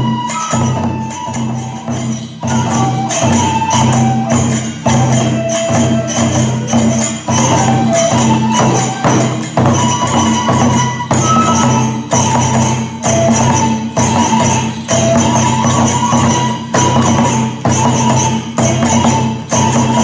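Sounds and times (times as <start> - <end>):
bamboo flute held notes: 0.0 - 20.0
hand cymbals clashing: 0.0 - 20.0
taiko drum beat: 0.0 - 20.0.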